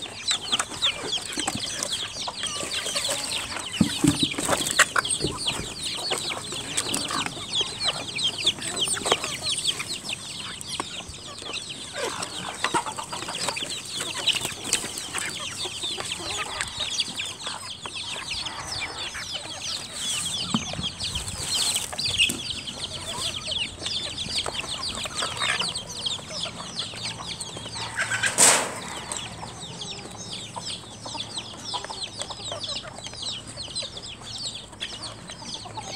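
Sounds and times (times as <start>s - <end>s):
chickens clucking: 0.0s - 35.9s
chicks peeping: 0.0s - 35.9s.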